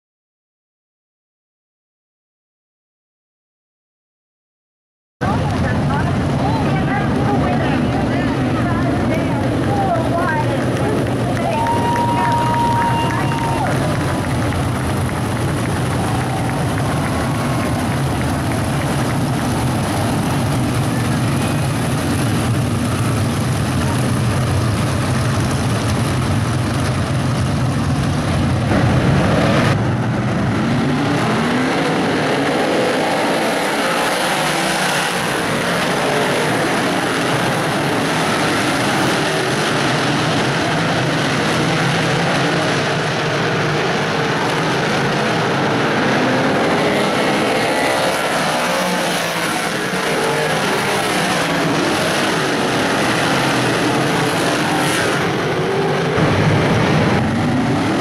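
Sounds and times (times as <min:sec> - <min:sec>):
engines revving up and down: 0:05.2 - 0:58.0
race car engines droning: 0:05.2 - 0:58.0.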